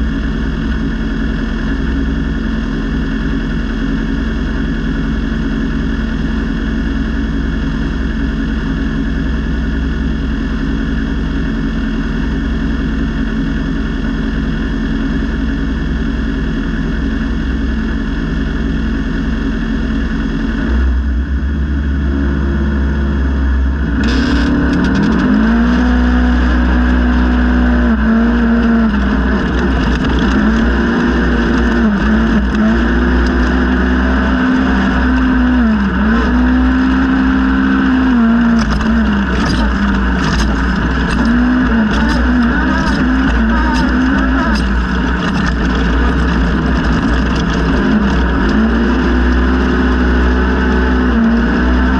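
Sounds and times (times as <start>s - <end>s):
off-road vehicle engine revving: 0.0s - 51.9s.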